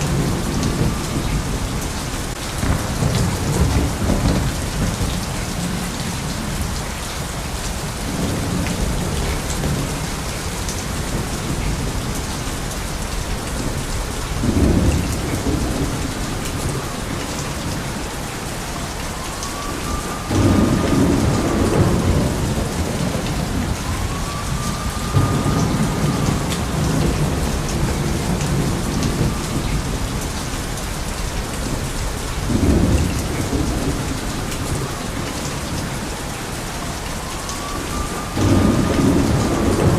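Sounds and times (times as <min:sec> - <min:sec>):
rolling thunder: 0:00.0 - 0:39.9
steady rain: 0:00.0 - 0:39.9.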